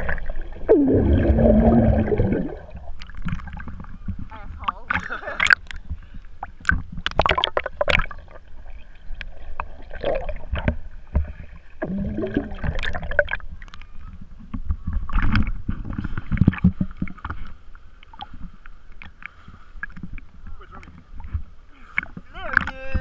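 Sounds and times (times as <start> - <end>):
water sloshing and bubbling: 0.0 - 23.0.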